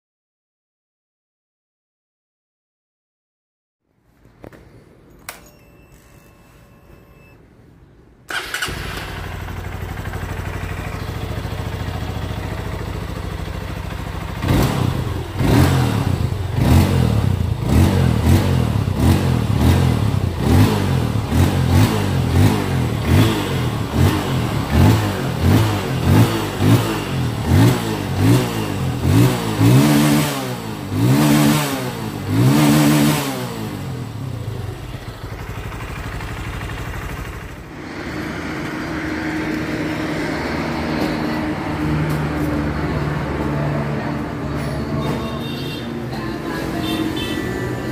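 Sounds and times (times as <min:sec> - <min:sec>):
motorcycle engine idling and revving: 0:08.3 - 0:47.9.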